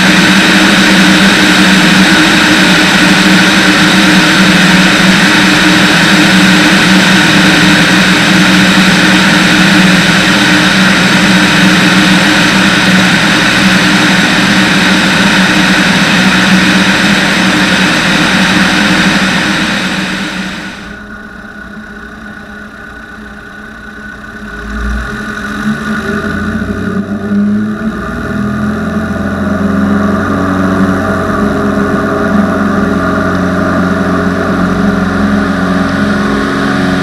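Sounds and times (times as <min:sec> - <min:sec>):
aircraft engine and propeller droning: 0:00.0 - 0:37.0.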